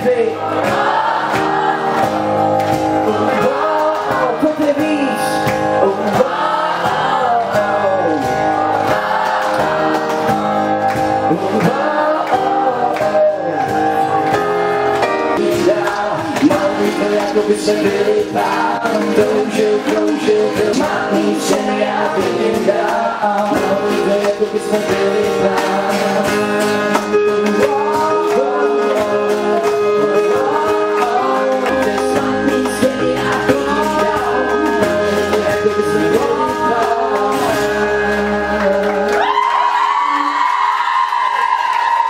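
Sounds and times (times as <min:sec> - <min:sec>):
man singing: 0:00.0 - 0:00.9, 0:03.0 - 0:09.9, 0:11.1 - 0:14.4, 0:15.3 - 0:40.4
low bass line: 0:00.0 - 0:39.2
guitar and band: 0:00.0 - 0:42.0.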